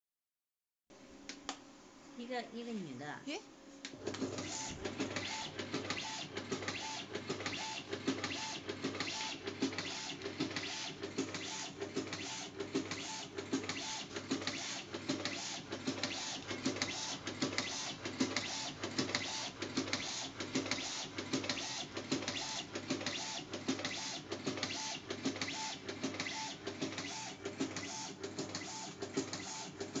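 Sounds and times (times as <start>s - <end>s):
tape cutting machine chopping: 3.9s - 30.0s.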